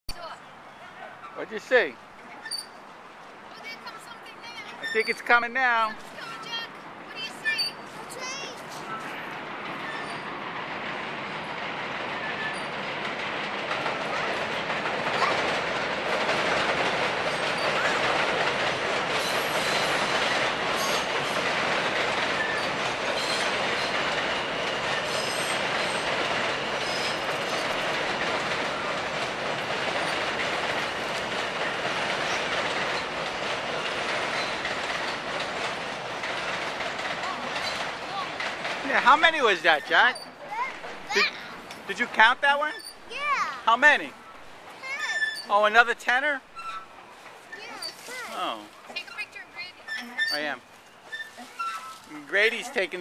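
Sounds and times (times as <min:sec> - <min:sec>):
train wheels clattering on rails: 0:03.6 - 0:53.0.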